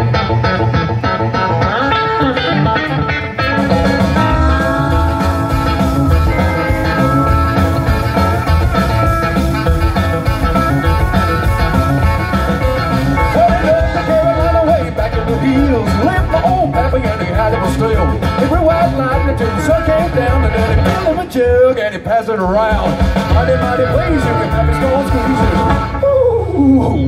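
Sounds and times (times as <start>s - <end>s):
country band playing: 0.0s - 27.0s
electric guitar: 0.0s - 27.0s.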